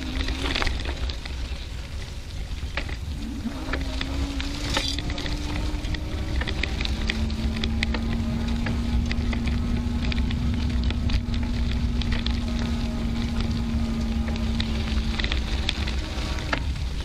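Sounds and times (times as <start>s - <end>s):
bicycle tyres rolling on gravel: 0.0s - 17.0s
steady hum: 0.0s - 17.0s
stones crackling under wheels: 0.0s - 17.0s
wind rumble on microphone: 0.0s - 17.0s.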